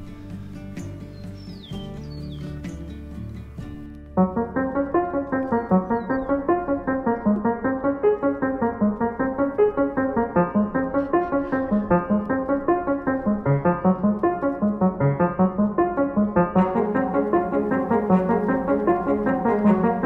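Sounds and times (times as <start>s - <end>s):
piano music: 0.7s - 20.0s.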